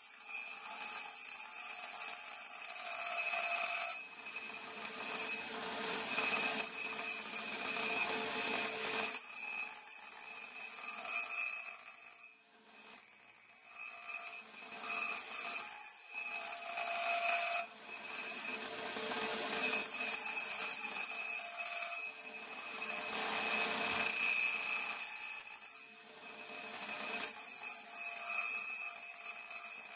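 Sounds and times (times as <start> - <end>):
lathe cutting steel whine: 0.1 - 11.8, 13.7 - 29.9.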